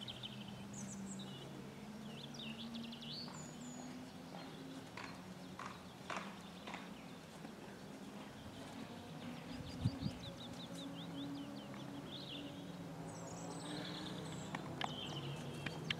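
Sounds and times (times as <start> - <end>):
songbirds chirping: 0.0 - 15.9.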